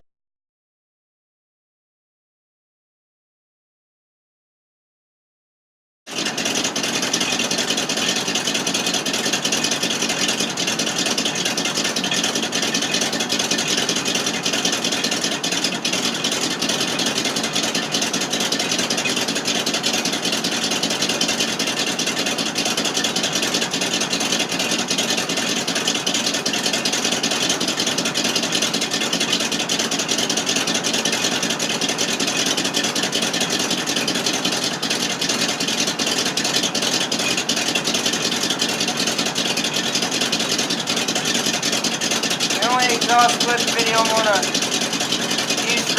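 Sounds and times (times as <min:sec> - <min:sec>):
truck engine idling: 0:06.1 - 0:45.9.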